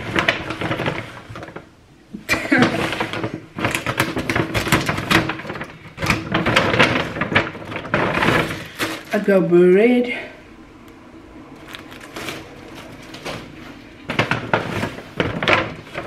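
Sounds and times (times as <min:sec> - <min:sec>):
plastic bags rustling: 0:00.0 - 0:09.7, 0:10.6 - 0:16.0.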